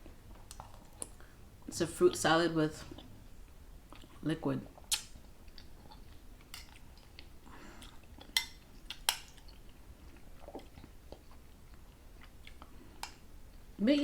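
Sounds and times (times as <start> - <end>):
quiet chewing: 0.0 - 1.4, 2.8 - 13.7.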